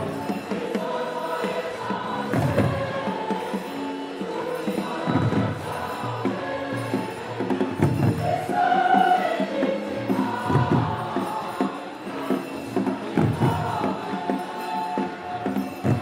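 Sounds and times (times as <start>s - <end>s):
choir singing a hymn: 0.0s - 16.0s
percussion beat: 0.0s - 16.0s.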